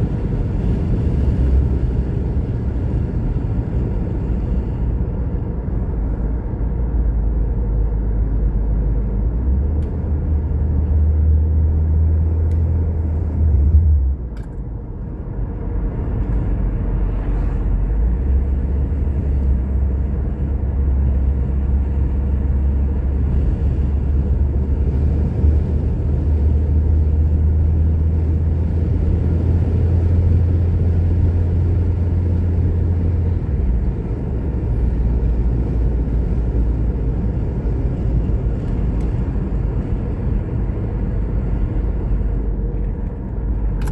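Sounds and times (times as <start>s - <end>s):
car road and engine rumble: 0.0s - 43.9s.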